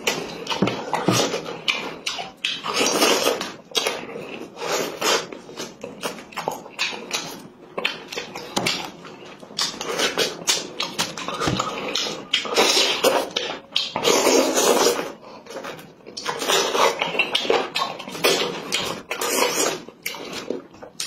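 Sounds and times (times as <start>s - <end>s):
lip smacks and chewing: 0.0s - 21.0s.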